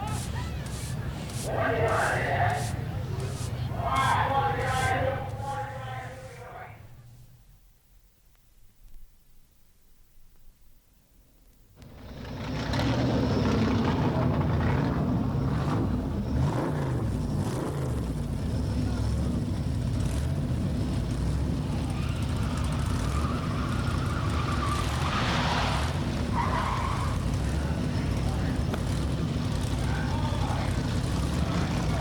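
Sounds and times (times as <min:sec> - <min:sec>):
stock car engines running: 0:00.0 - 0:07.2, 0:11.8 - 0:32.0.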